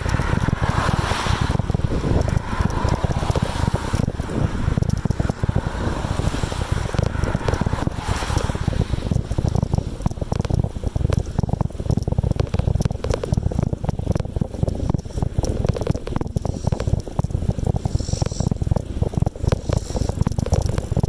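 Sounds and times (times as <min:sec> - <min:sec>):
bicycle rattles and clicks: 0:00.0 - 0:21.0
wind rumble on microphone: 0:00.0 - 0:21.0.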